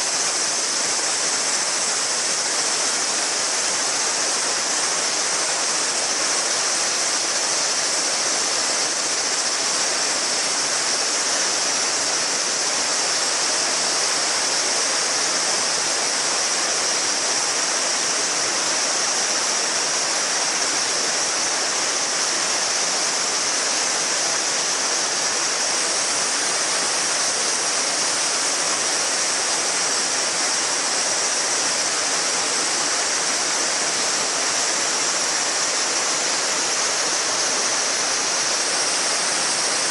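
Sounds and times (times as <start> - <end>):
cicadas shrilling: 0.0 - 39.9
river water babbling over stones: 0.0 - 39.9.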